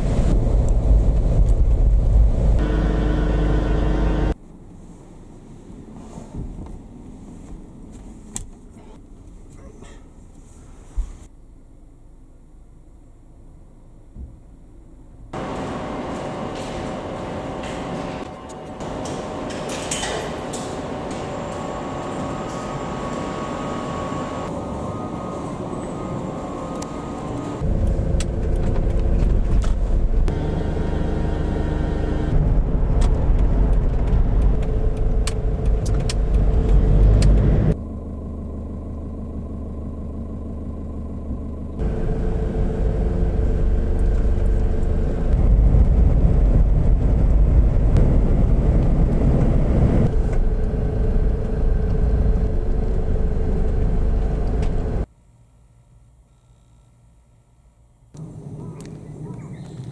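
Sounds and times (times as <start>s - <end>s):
vehicle engine and tyre rumble: 0.0s - 59.9s.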